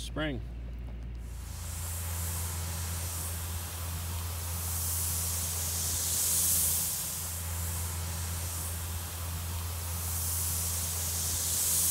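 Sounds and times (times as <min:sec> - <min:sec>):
steady low hum: 0:00.0 - 0:11.9
sprinkler hissing air and water mist: 0:01.1 - 0:11.9.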